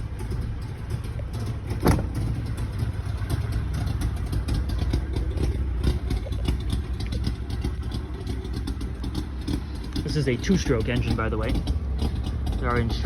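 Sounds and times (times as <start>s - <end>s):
two-stroke engine idling: 0.0s - 13.0s.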